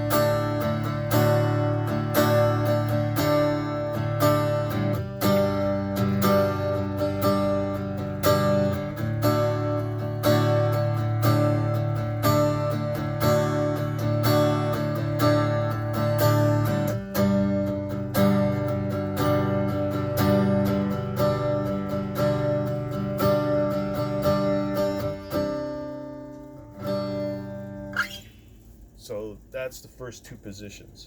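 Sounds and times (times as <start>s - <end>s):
acoustic guitar strumming chords: 0.0s - 30.1s.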